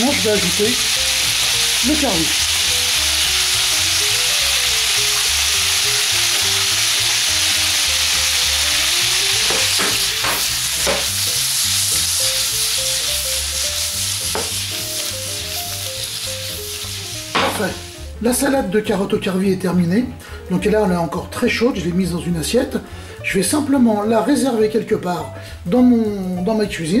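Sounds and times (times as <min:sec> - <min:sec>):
carrots sizzling in a frying pan: 0:00.0 - 0:27.0.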